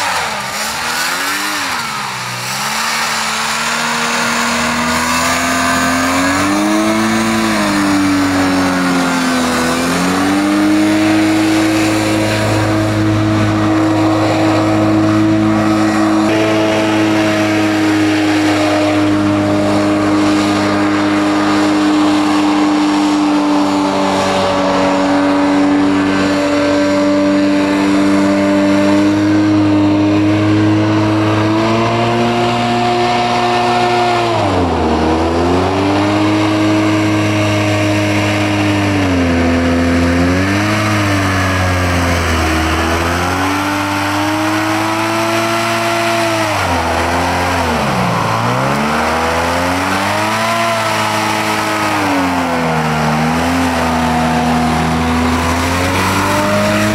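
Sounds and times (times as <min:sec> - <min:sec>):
two-stroke engine revving: 0:00.0 - 0:56.9.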